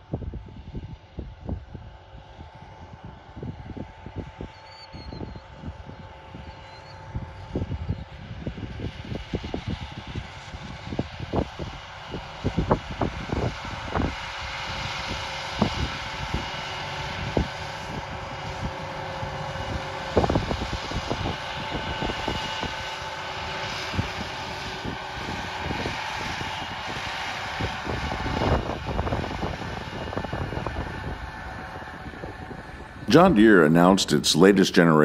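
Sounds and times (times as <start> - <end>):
wind buffeting microphone: 0.0 - 35.0
tractor diesel engine running: 1.8 - 35.0.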